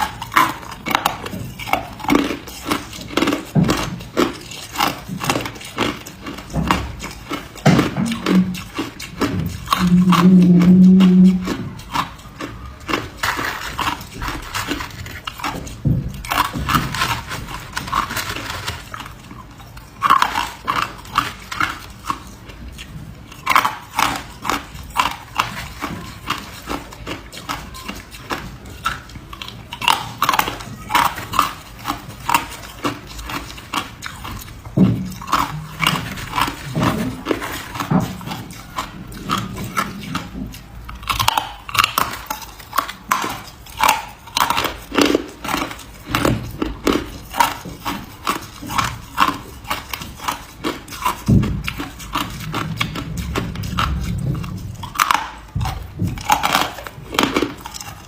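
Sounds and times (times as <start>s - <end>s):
ice being chewed and crunched: 0.0s - 58.0s.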